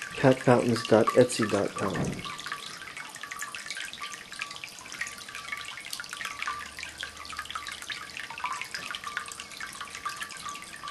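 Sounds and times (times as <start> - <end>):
fountain water splashing and dripping: 0.0 - 10.9.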